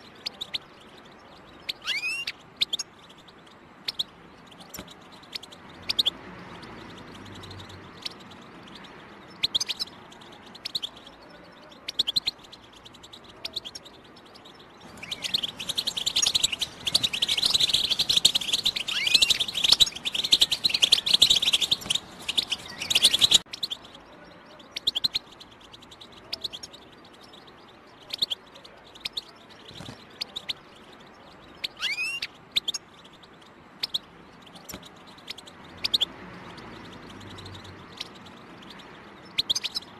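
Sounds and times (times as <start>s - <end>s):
goldfinch chirps: 0.0s - 39.9s
rapid twittering birdsong: 0.0s - 39.9s.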